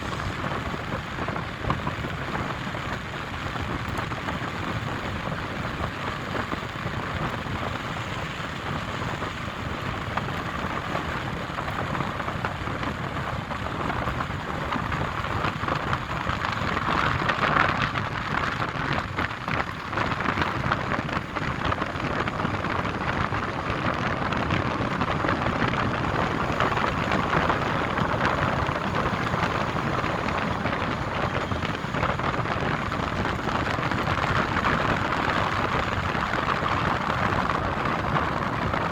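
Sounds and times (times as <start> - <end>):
hiss of wind-driven snow: 0.0 - 38.9.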